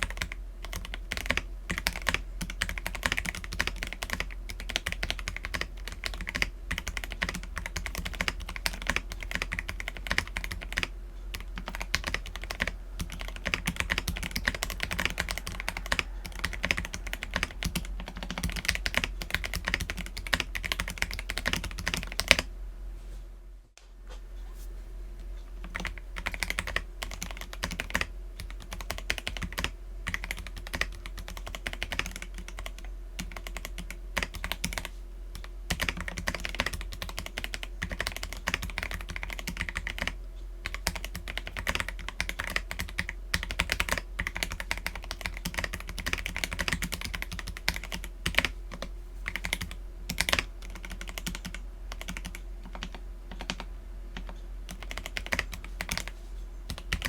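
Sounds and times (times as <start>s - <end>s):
mechanical keyboard clacking: 0.0s - 22.4s, 25.6s - 53.6s, 56.7s - 57.0s.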